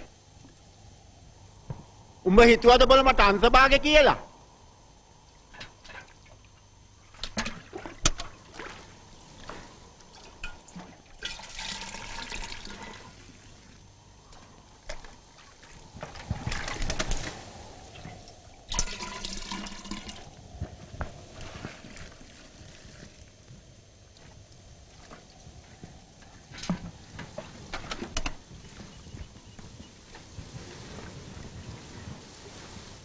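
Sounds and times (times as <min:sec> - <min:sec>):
water gurgling and sloshing: 0:04.5 - 0:33.0.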